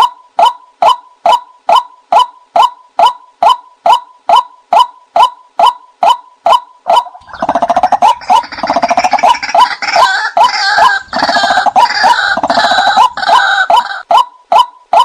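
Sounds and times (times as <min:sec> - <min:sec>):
rapid croaking bird calls: 0:00.8 - 0:15.0.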